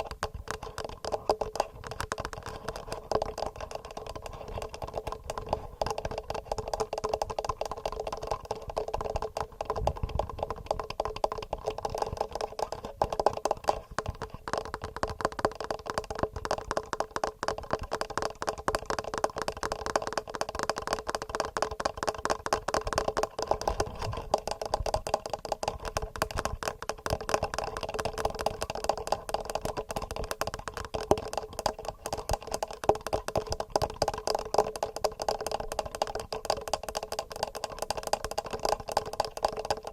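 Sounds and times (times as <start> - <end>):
fingernail tapping on microphone: 0.0 - 39.9.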